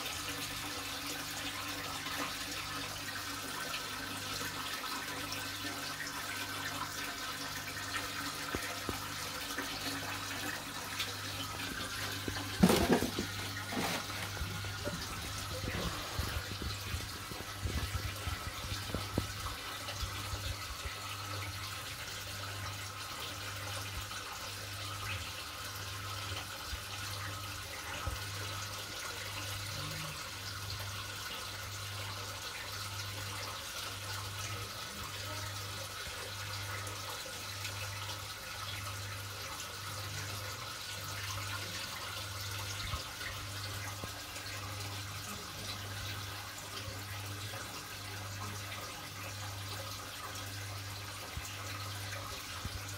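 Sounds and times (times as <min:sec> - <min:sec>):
aquarium pump water rushing: 0:00.0 - 0:52.9.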